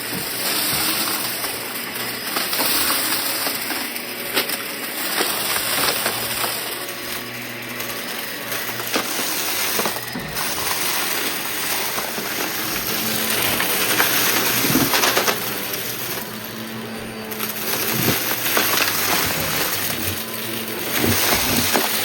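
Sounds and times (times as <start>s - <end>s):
small hard bits rattling: 0.0s - 22.0s
vacuum cleaner running: 0.0s - 22.0s.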